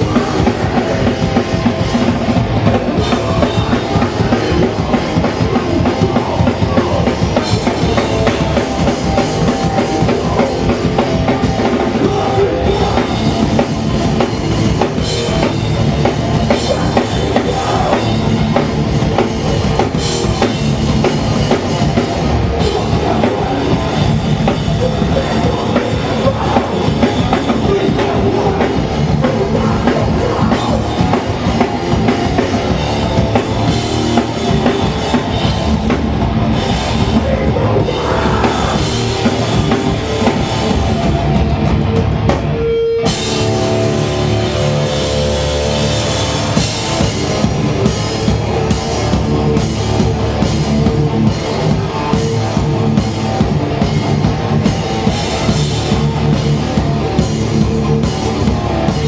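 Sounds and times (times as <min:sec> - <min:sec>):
distorted electric guitars: 0:00.0 - 0:59.0
fast driving drum kit: 0:00.0 - 0:59.0.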